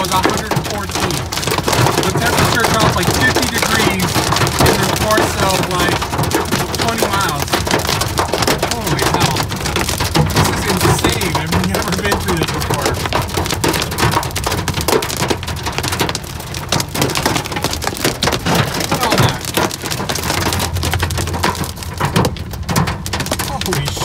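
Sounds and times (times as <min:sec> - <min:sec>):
hail and rain on car roof: 0:00.0 - 0:24.0
low road rumble: 0:00.0 - 0:24.0.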